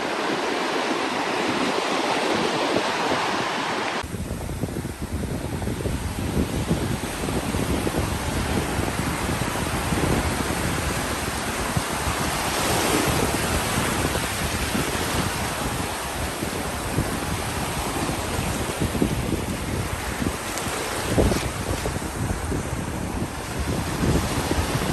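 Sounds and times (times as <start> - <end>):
ocean surf breaking: 0.0 - 24.9
wind buffeting microphone: 0.0 - 24.9.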